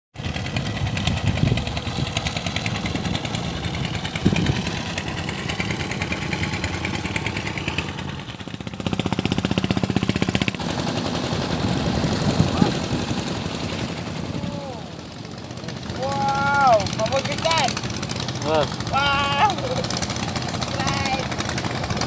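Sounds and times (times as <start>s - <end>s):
small engine puttering: 0.2s - 22.0s.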